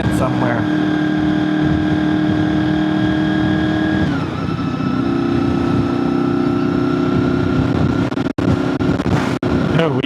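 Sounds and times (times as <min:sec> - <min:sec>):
motorcycle engine running: 0:00.0 - 0:09.8
wind and road rumble: 0:00.0 - 0:10.0.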